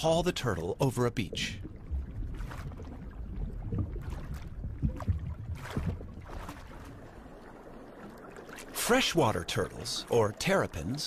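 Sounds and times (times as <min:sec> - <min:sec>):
rushes of water: 0:00.0 - 0:11.0
wind and waves rumbling: 0:00.0 - 0:11.0.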